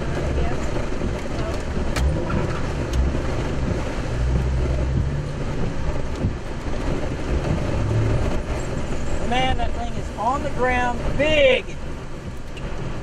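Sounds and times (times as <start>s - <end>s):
car engine and tyres: 0.0s - 13.0s.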